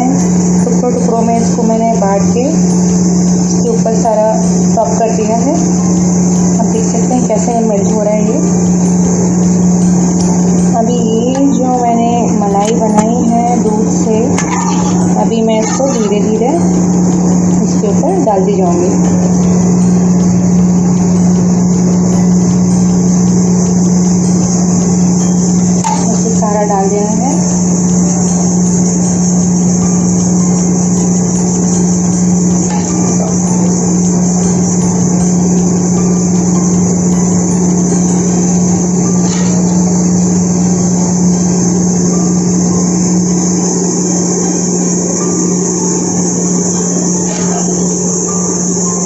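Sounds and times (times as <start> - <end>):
mechanical drone with hiss: 0.0 - 49.0.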